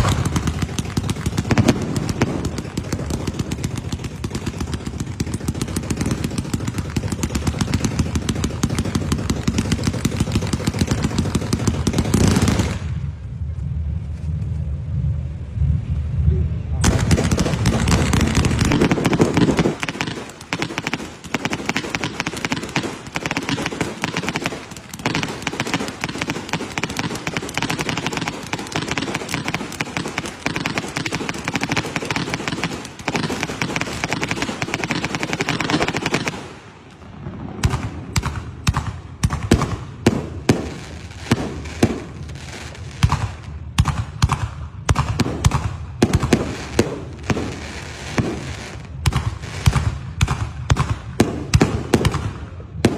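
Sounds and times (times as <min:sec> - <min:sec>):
firecracker sharp bangs: 0:00.0 - 0:13.2, 0:16.8 - 0:52.9
fireworks crackling: 0:00.0 - 0:15.9, 0:16.8 - 0:52.9.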